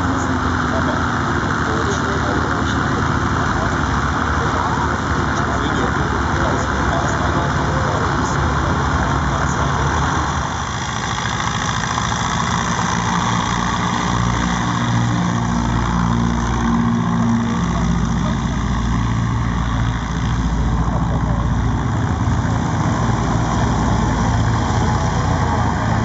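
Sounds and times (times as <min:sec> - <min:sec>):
propeller plane taxiing: 0:00.0 - 0:26.0.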